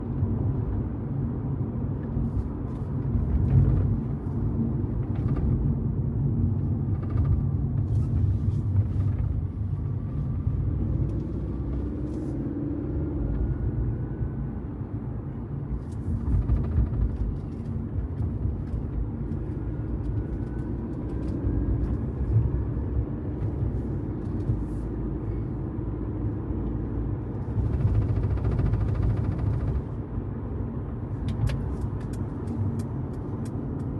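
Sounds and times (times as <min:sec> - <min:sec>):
car low rumble: 0:00.0 - 0:33.9.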